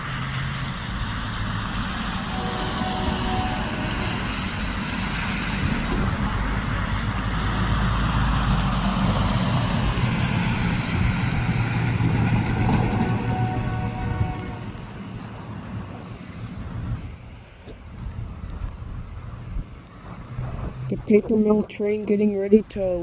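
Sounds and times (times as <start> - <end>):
locomotive engine rumbling: 0.0 - 23.0.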